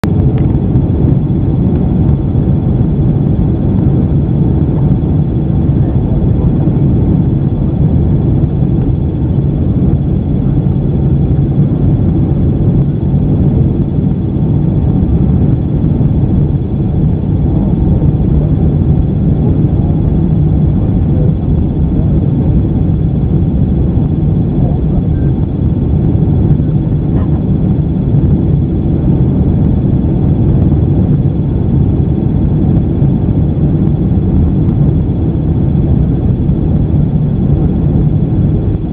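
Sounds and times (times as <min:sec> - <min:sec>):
airflow over fuselage: 0:00.0 - 0:38.9
jet engine rumble: 0:00.0 - 0:38.9
steady hum: 0:00.0 - 0:38.9.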